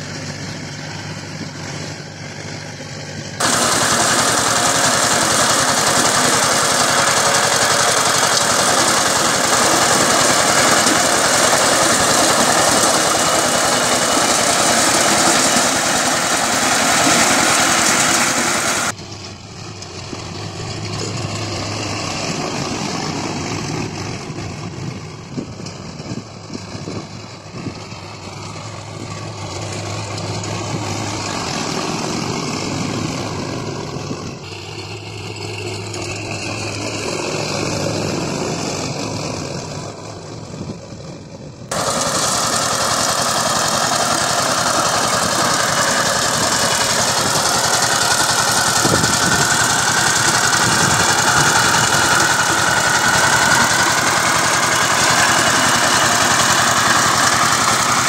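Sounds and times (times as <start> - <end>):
power tiller diesel engine running: 0.0 - 58.0
tractor diesel engine droning: 0.0 - 58.0.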